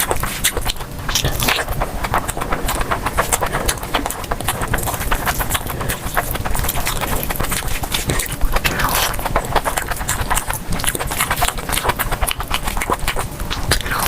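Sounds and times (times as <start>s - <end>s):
wet chewing and crunching: 0.0s - 14.0s.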